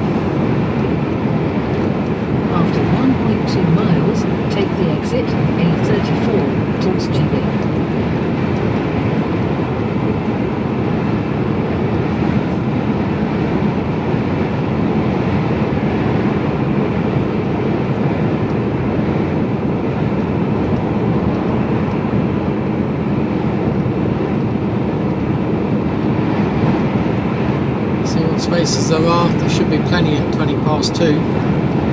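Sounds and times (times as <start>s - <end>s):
lorry engine drone: 0.0s - 31.9s.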